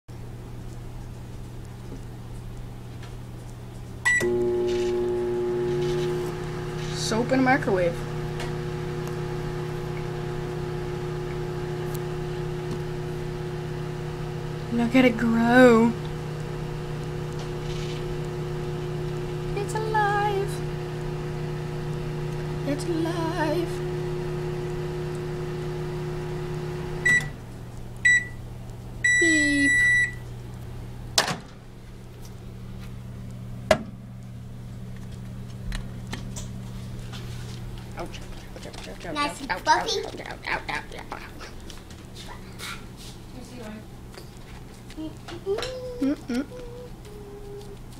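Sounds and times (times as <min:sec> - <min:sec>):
microwave oven humming: 0:00.1 - 0:47.9.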